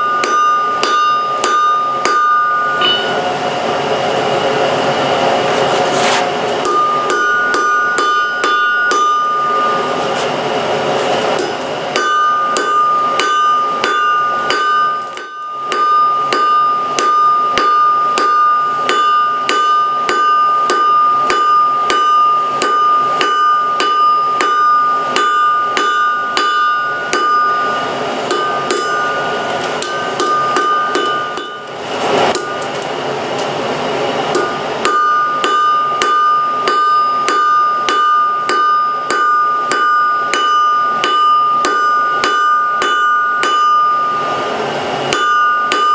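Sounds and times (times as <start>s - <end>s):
hammer striking steel on anvil: 0.0s - 3.6s, 6.5s - 10.3s, 11.1s - 32.9s, 34.3s - 45.9s.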